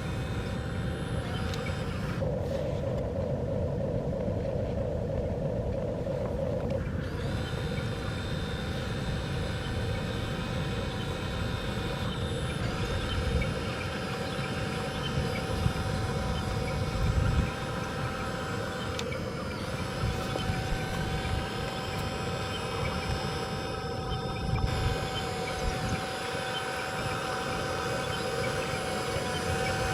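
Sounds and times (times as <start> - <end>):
steady whining tones: 0.0 - 29.9.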